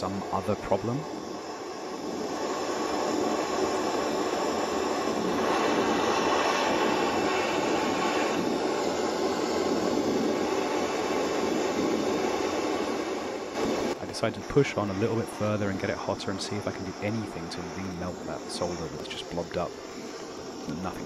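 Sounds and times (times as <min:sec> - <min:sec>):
blowtorch flame hissing: 0:00.0 - 0:21.0.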